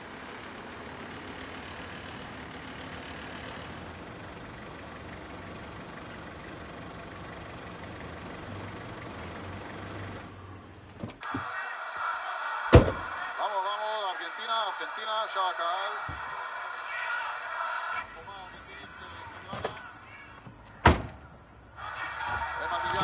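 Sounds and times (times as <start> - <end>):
car engine humming: 0.0 - 11.5, 15.8 - 23.0.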